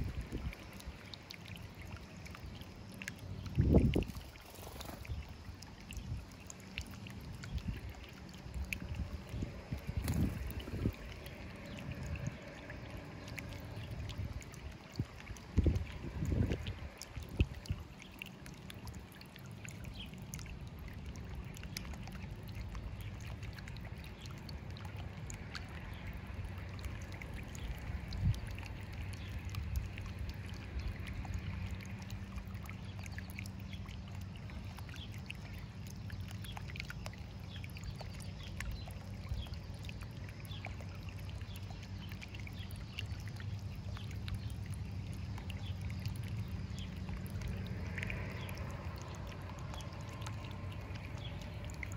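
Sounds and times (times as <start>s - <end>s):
low steady hum: 0.0s - 51.9s
water trickling and splashing: 0.0s - 51.9s.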